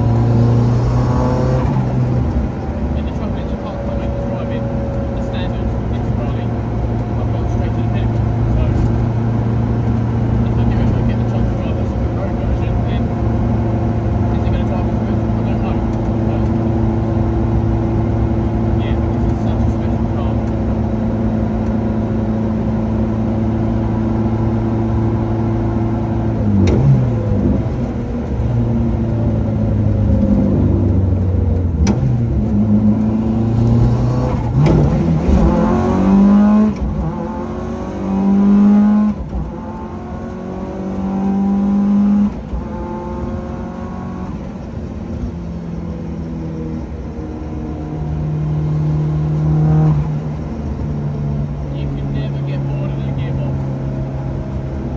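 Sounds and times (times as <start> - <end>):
rally car engine accelerating: 0.0 - 54.9.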